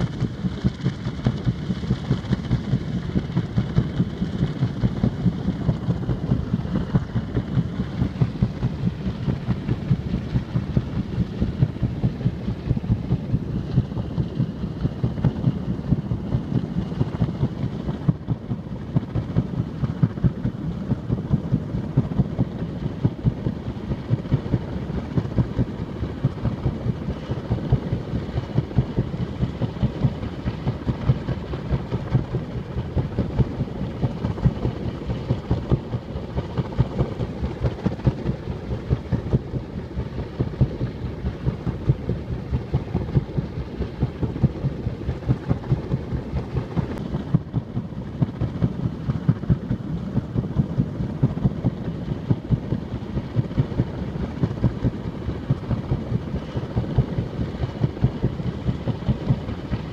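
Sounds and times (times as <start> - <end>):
helicopter engine rumbling and thumping: 0.0 - 59.9.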